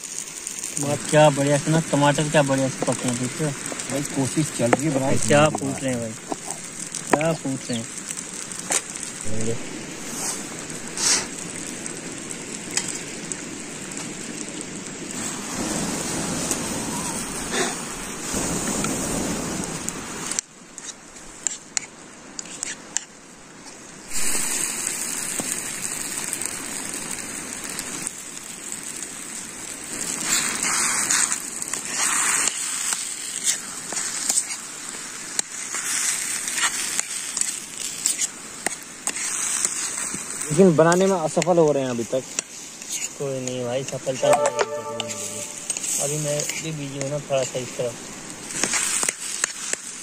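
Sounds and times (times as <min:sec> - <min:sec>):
food sizzling in a pan: 0:00.0 - 0:50.0.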